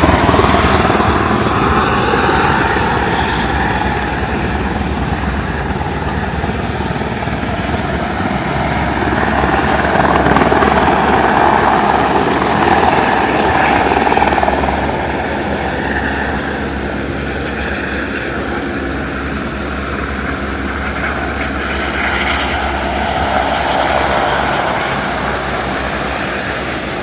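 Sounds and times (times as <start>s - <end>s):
helicopter flying over: 0.0s - 27.0s.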